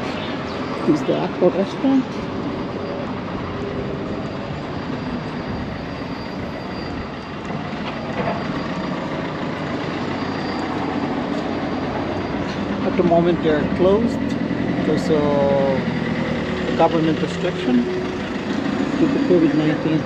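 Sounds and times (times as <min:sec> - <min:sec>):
rumbling outdoor noise: 0:00.0 - 0:20.0.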